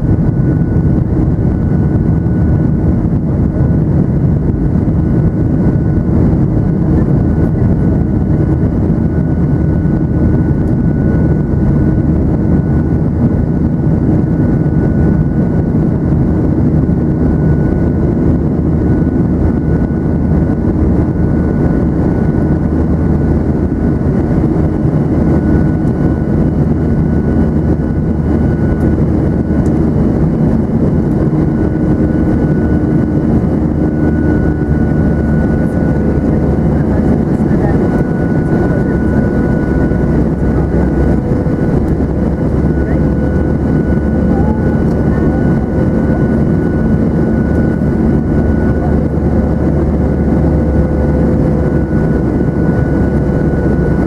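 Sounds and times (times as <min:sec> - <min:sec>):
jet engine drone: 0:00.0 - 0:54.0
rushing airflow: 0:00.0 - 0:54.0
thin steady whine: 0:00.0 - 0:54.0.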